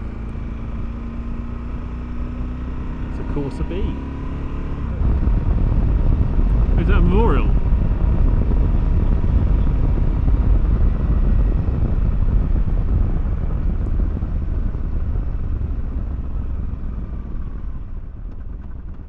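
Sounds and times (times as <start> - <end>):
motorcycle engine rumble: 0.0 - 19.0
wind and road noise: 0.0 - 19.0.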